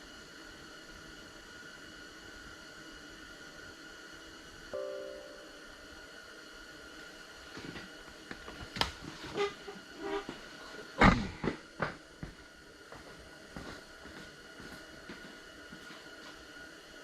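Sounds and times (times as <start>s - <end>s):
faint high whine: 0.1s - 17.0s.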